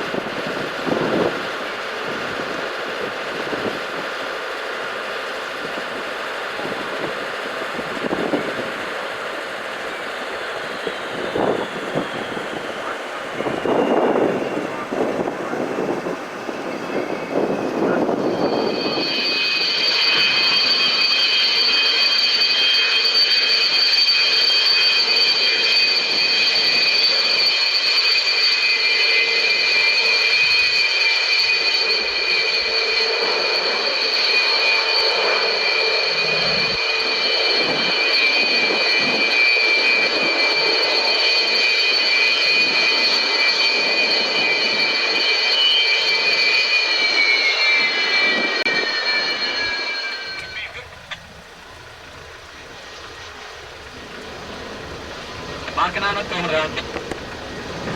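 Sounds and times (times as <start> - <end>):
jet engine whine: 0.0 - 57.9.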